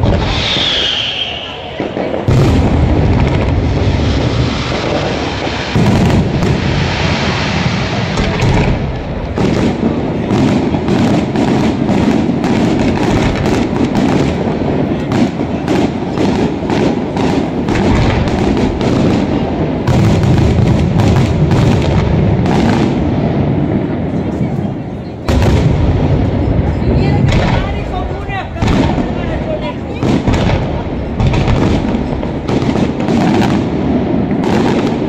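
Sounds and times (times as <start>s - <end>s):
rapid firework bangs: 0.0s - 24.2s, 25.2s - 35.0s
firework shells booming and crackling: 0.0s - 35.0s.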